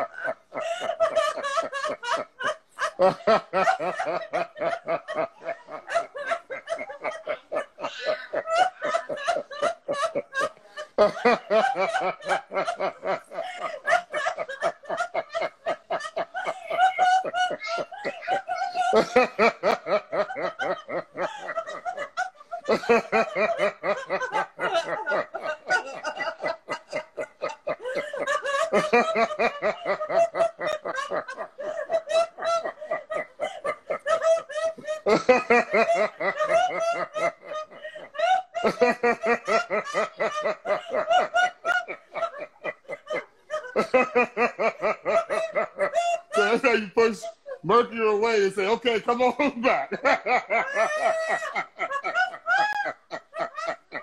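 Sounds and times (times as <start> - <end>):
man and woman laughing: 0.0 - 54.0.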